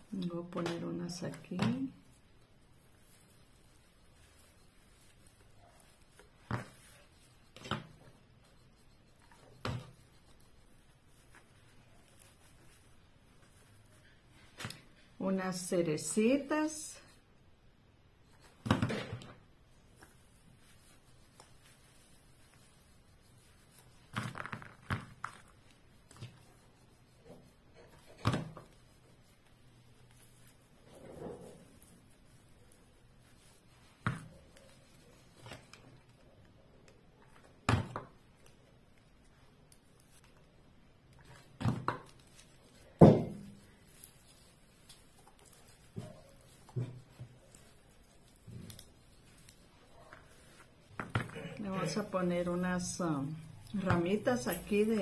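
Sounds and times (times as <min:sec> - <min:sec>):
wreath handling thumps and knocks: 0:00.1 - 0:15.2, 0:18.3 - 0:52.0.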